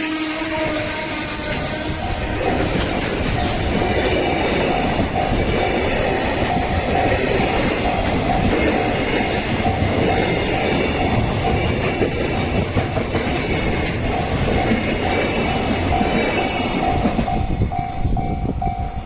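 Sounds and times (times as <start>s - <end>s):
freight train wheels clattering: 0.3s - 19.0s
level crossing warning bell: 0.8s - 19.0s.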